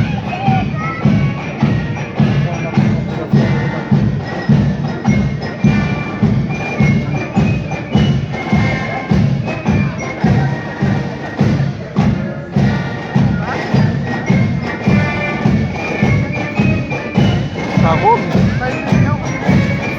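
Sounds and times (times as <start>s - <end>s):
held melody notes: 0.0s - 19.9s
loud drum beat: 0.0s - 19.9s.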